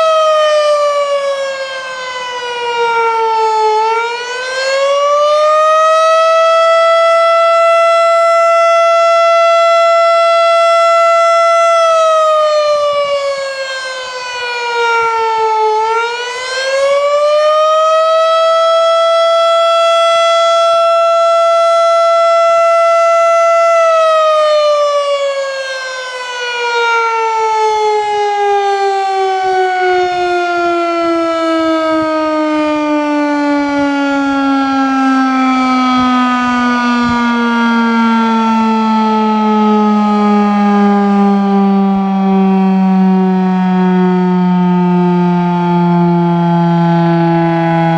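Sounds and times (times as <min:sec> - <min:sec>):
fire siren wailing: 0:00.0 - 0:47.9.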